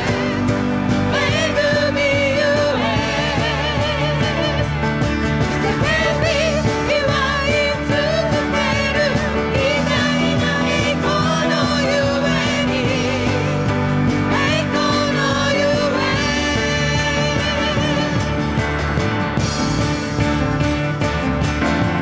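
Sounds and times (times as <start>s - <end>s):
singers singing a melody: 0.0s - 18.4s
worship band playing: 0.0s - 22.0s.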